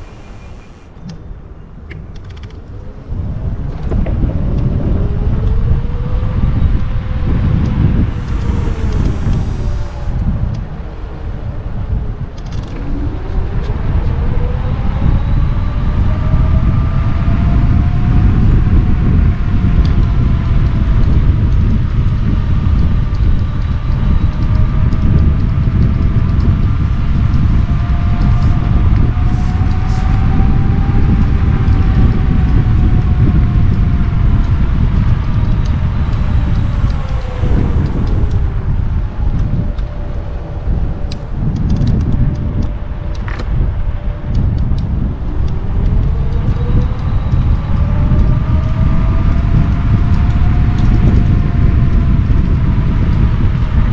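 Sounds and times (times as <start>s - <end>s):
electric scooter motor whine: 0.0s - 1.2s, 2.6s - 53.9s
wind and road rumble: 0.0s - 53.9s.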